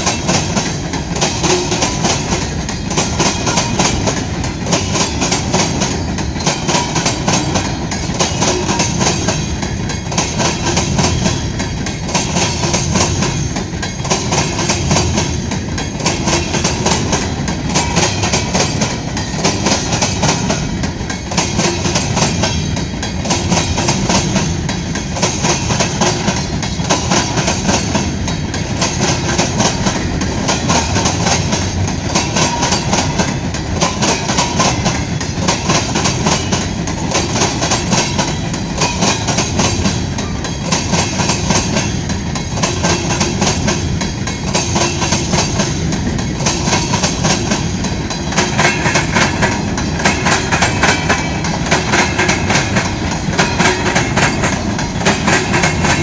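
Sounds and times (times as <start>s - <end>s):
steel wheels on rail: 0.0s - 56.0s
wheels clicking over rail joints: 0.0s - 56.0s.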